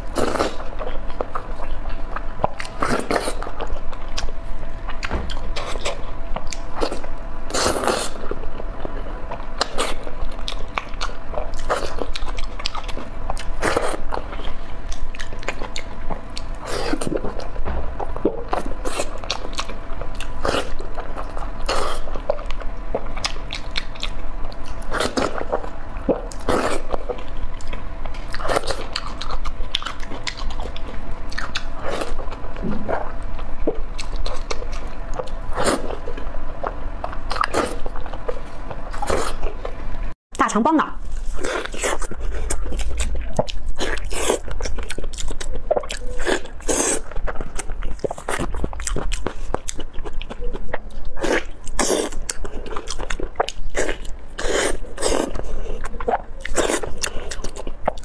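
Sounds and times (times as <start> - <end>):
person chewing meat: 0.0 - 40.0, 41.0 - 58.0.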